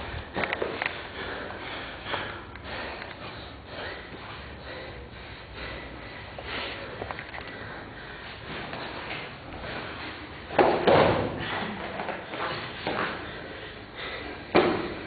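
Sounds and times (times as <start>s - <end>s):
people breathing hard: 0.0s - 15.0s.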